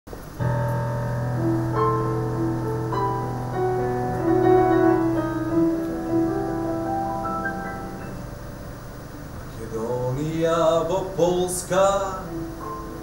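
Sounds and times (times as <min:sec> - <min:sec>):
slow soft piano melody: 0:00.1 - 0:13.0.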